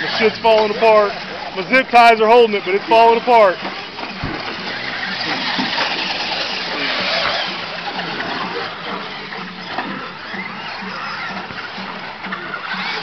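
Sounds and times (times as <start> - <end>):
model truck motors whining: 0.0 - 13.0
steady rushing noise: 0.0 - 13.0.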